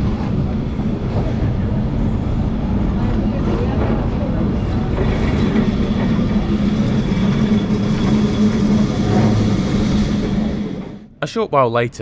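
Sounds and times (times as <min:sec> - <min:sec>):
tram wheels rumbling on rails: 0:00.0 - 0:11.1.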